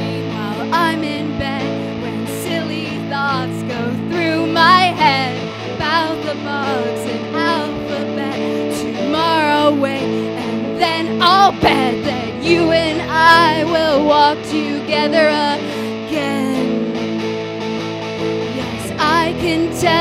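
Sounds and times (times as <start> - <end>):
woman singing with vibrato: 0.0 - 17.1, 18.5 - 20.0
electric guitars playing chords: 0.0 - 20.0.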